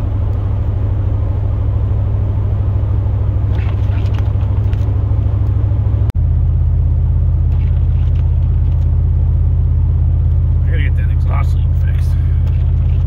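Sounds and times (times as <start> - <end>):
engine and road rumble in truck cab: 0.0 - 13.0.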